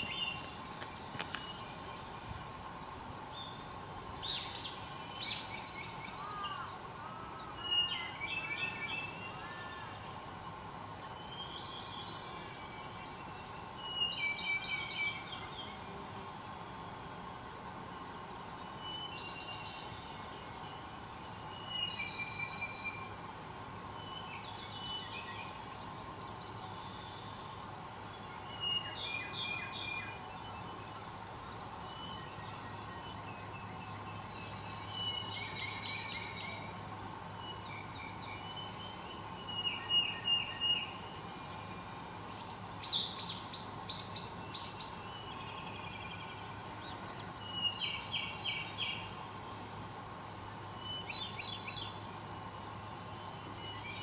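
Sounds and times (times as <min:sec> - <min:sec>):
songbirds singing: 0:00.0 - 0:02.5, 0:03.3 - 0:15.9, 0:24.0 - 0:54.0.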